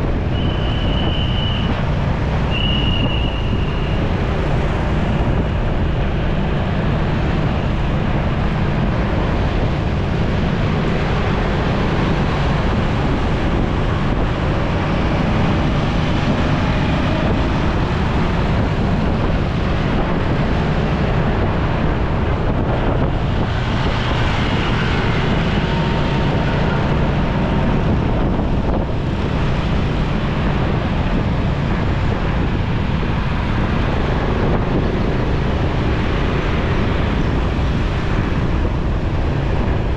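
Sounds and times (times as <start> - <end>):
surrounding traffic: 0.0 - 39.9
wind buffeting microphone: 0.0 - 39.9.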